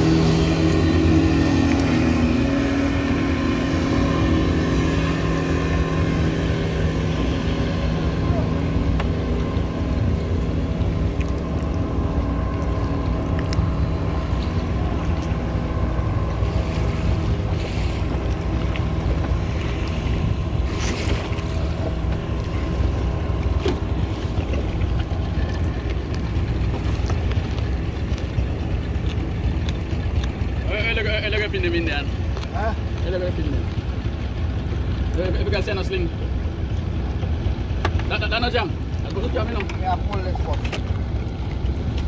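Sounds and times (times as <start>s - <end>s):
boat engine running: 0.0s - 42.0s
water rushing past: 0.0s - 42.0s.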